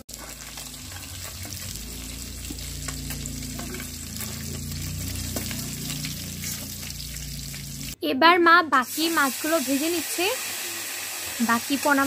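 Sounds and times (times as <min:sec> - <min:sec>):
fish sizzling in hot oil: 0:00.0 - 0:08.0, 0:08.8 - 0:12.0.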